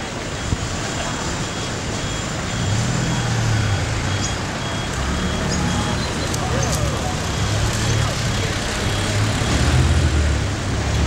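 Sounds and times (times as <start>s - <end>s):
street traffic: 0.0s - 11.0s
vehicle engine humming: 0.0s - 11.0s
faint high beeps: 0.2s - 9.6s.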